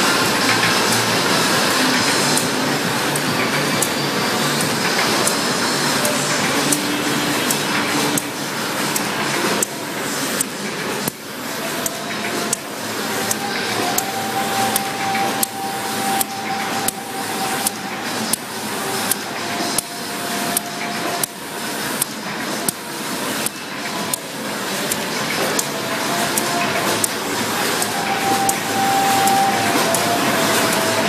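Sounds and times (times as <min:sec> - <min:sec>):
machine mechanical whir: 0:00.0 - 0:31.0
sharp machine clacks: 0:00.0 - 0:31.0.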